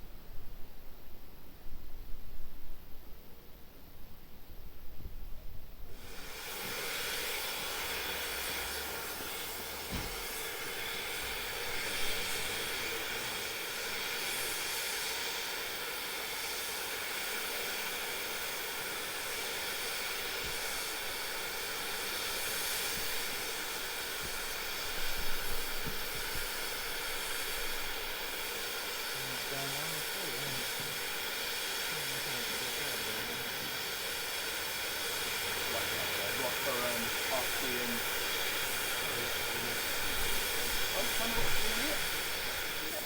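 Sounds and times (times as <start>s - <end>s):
steam hissing: 5.8s - 43.0s.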